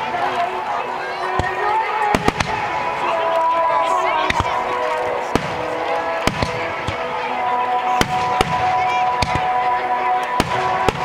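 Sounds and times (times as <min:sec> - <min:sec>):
fireworks bangs: 0:01.3 - 0:03.4, 0:04.1 - 0:11.0.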